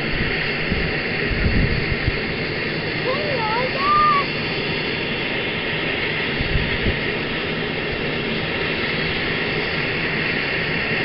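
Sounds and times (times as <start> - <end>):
helicopter engines and rotor running: 0.0 - 11.0.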